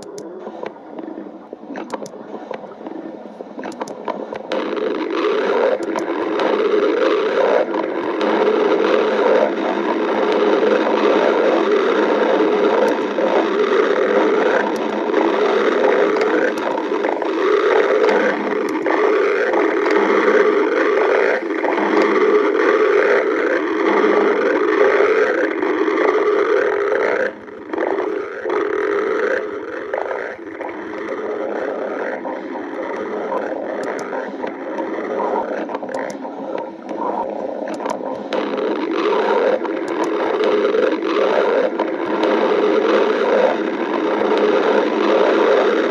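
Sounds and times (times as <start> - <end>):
stomach growling: 0.0 - 45.9.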